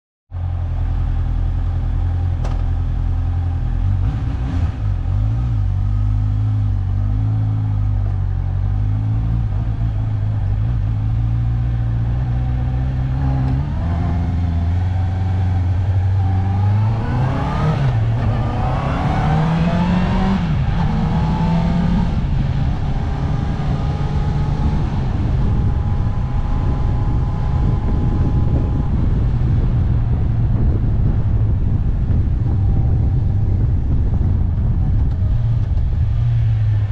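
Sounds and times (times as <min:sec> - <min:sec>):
motorcycle engine idling and revving: 0:00.3 - 0:36.9
wind and road noise: 0:00.3 - 0:36.9.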